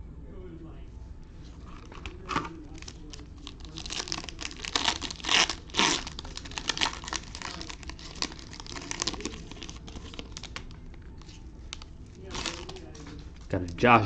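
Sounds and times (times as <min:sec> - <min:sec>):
foil wrapper crinkling: 0:01.6 - 0:13.8.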